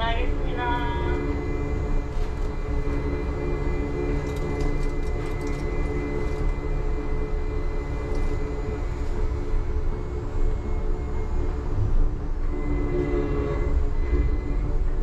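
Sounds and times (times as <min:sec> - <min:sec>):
electric drive whine: 0:00.0 - 0:15.0
train low rumble: 0:00.0 - 0:15.0.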